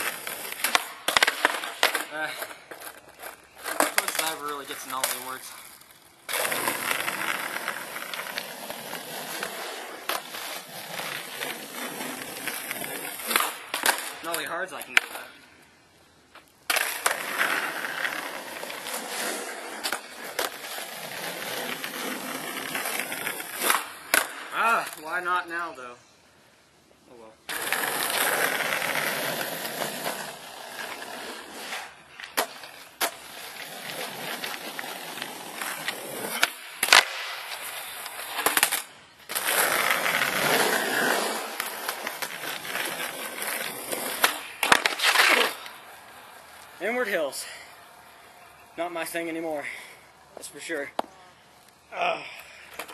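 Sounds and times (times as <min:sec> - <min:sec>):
skateboard wheels rolling on pavement: 0:00.0 - 0:25.9, 0:26.6 - 0:52.9.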